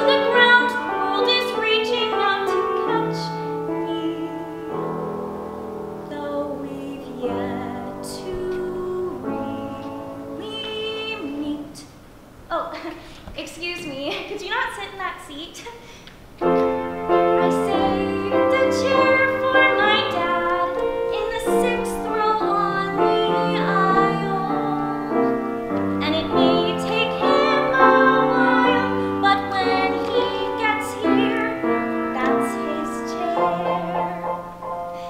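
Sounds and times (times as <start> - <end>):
upright piano accompaniment: 0.0 - 11.6, 16.4 - 35.0.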